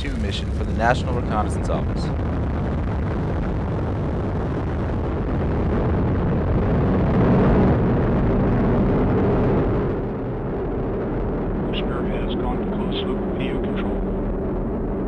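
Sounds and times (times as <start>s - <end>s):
rocket engine roaring: 0.0s - 15.0s.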